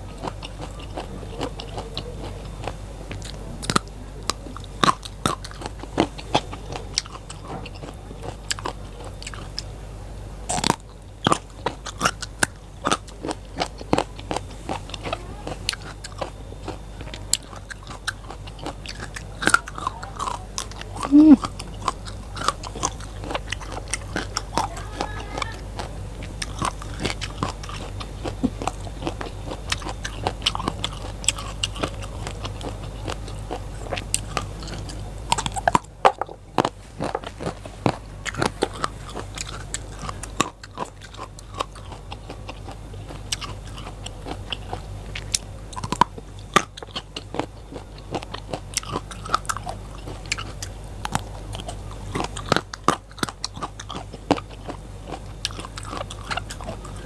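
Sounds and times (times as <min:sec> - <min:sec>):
chewing crisp raw vegetables: 0:00.0 - 0:09.8, 0:10.4 - 0:57.0.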